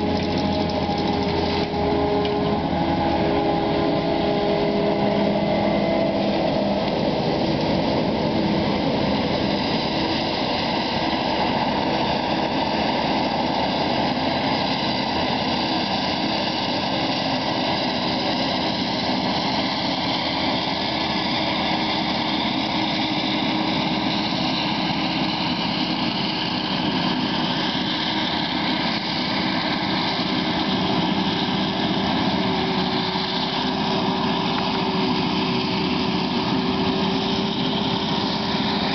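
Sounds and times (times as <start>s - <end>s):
forage harvester running: 0.0s - 38.9s
tractor engine: 0.0s - 38.9s.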